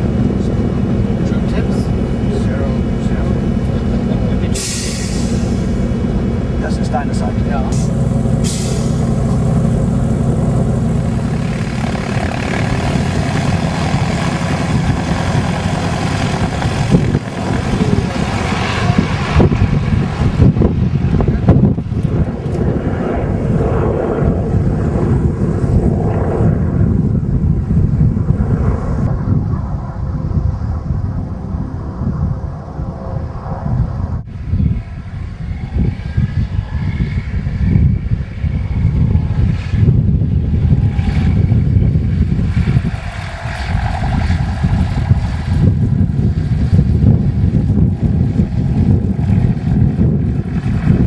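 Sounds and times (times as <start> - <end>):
propeller aircraft engines running: 0.0 - 51.0
wind buffeting microphone: 0.0 - 51.0.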